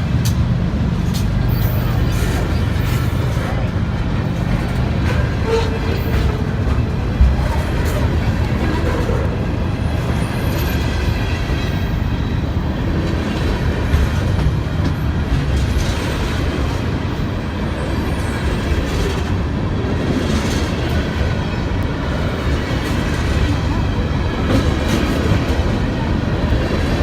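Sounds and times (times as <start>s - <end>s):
train rail noise: 0.0s - 27.0s.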